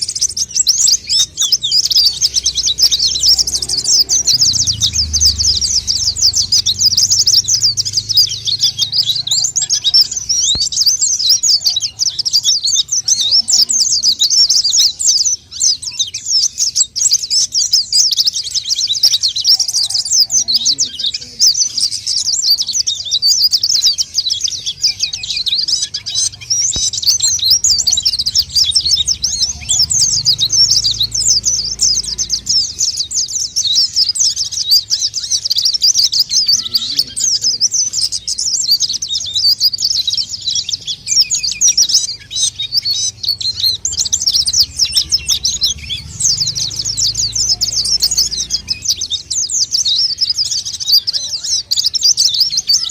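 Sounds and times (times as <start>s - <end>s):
birds twittering chirps: 0.0s - 52.9s.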